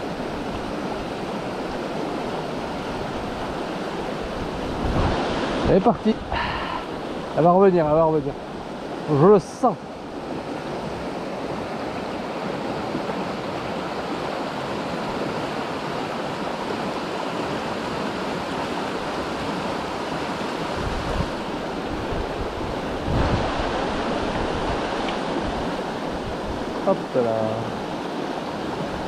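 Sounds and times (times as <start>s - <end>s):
river current rushing: 0.0s - 29.0s.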